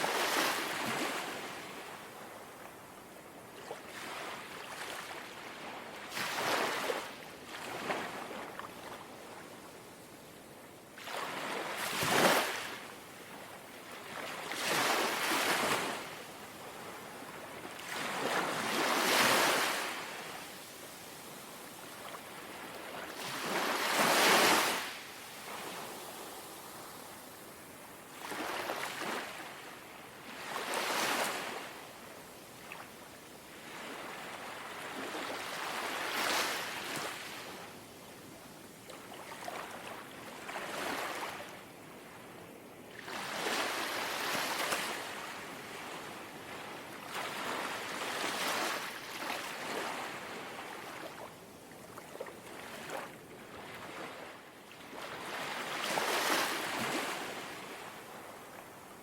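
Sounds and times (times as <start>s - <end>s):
calm sea waves lapping on shore: 0.0s - 59.0s.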